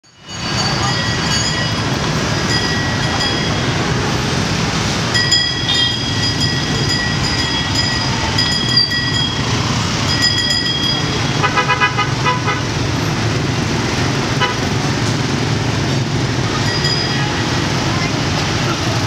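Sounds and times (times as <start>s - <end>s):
rumble of motorbike engines: 0.1s - 19.0s
horns beeping: 0.2s - 13.6s, 14.2s - 18.6s.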